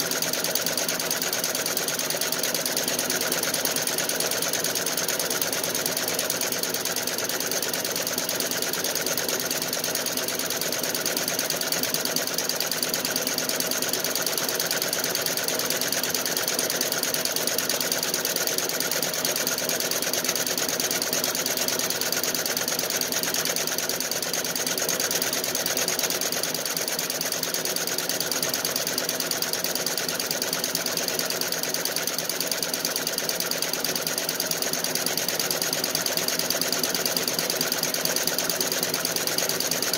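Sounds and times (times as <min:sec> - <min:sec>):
embroidery machine needle clatter: 0:00.0 - 0:39.9.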